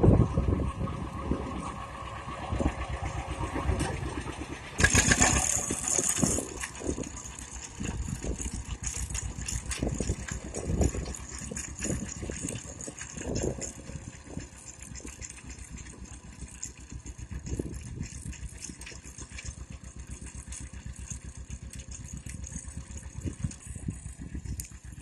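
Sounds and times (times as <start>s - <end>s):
tractor engine popping: 0.2s - 25.0s
binder mechanism rattling: 4.8s - 25.0s.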